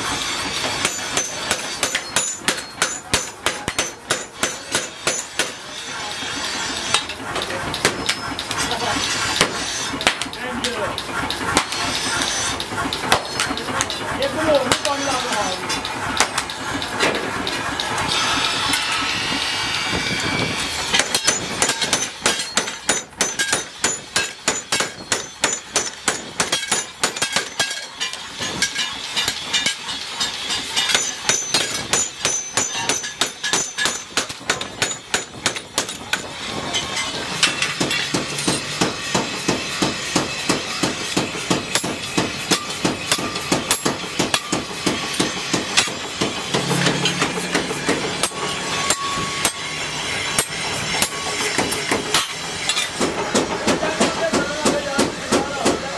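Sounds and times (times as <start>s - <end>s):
power hammer pounding steel: 0.0s - 55.9s.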